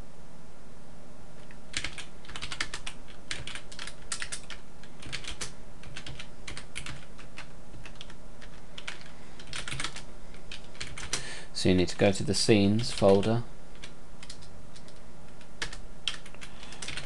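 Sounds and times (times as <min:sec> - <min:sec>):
low steady hum: 0:00.0 - 0:17.0
keyboard typing: 0:01.7 - 0:11.2, 0:12.8 - 0:17.0.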